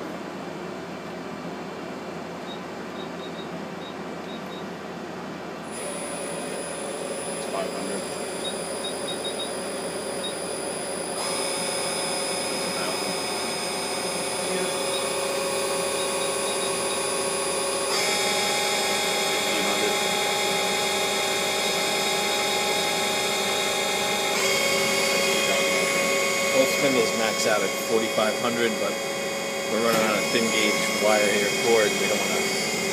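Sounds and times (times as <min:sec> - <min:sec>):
lathe spindle whine: 0:05.6 - 0:32.9.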